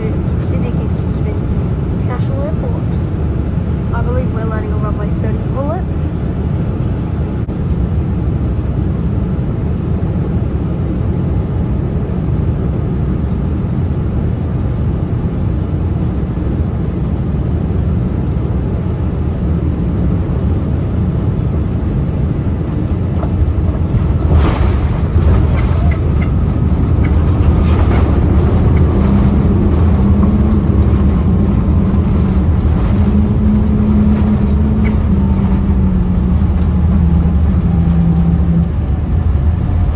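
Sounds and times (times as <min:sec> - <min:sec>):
airflow and engine noise: 0:00.0 - 0:39.9
low hum: 0:00.0 - 0:39.9.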